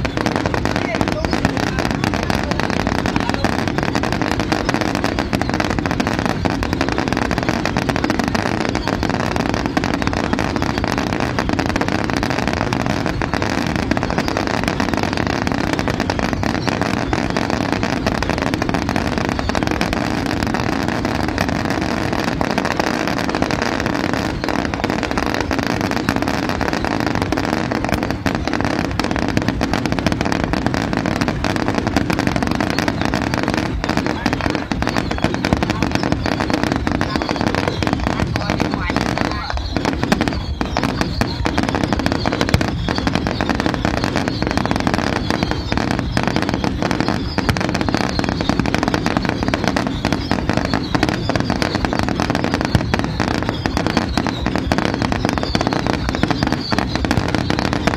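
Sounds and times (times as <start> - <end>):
continuous fireworks rumble: 0.0 - 57.9
fireworks crackling pops: 0.0 - 57.9.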